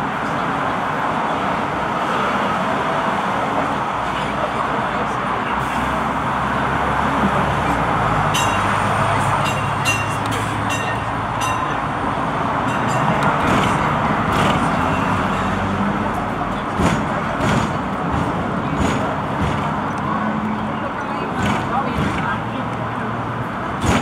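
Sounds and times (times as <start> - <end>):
tram running on rails: 0.0 - 24.0.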